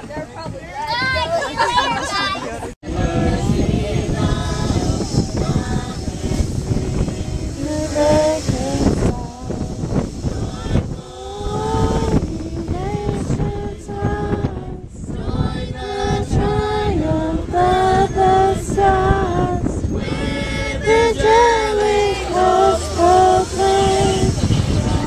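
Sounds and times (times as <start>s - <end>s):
tram rumble: 0.0s - 25.0s
family singing a carol: 1.0s - 25.0s.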